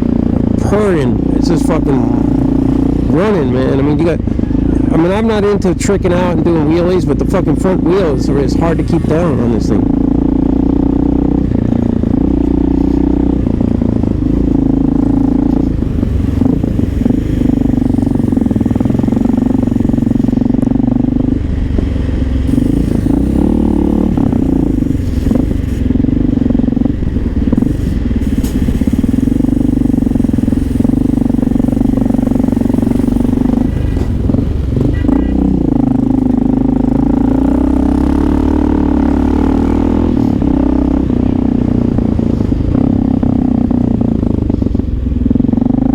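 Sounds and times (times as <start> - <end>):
motorcycle engine rumbling: 0.0 - 45.9.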